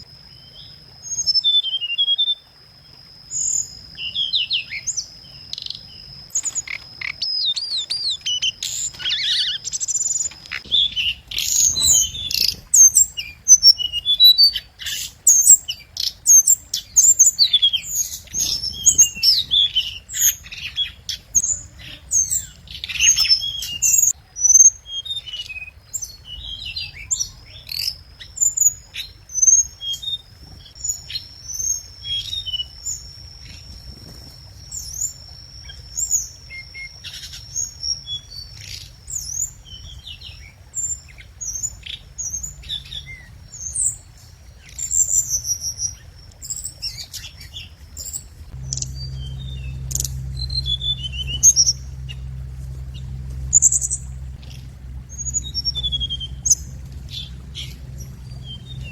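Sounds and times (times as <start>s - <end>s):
thin steady high tone: 0.0s - 24.8s, 26.1s - 40.4s, 41.6s - 58.9s
songbird chirping and trilling: 0.0s - 58.9s.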